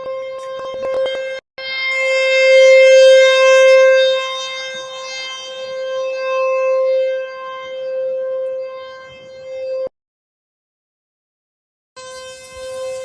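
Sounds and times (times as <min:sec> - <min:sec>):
warning siren steady tone: 0:00.0 - 0:09.9, 0:12.0 - 0:13.0.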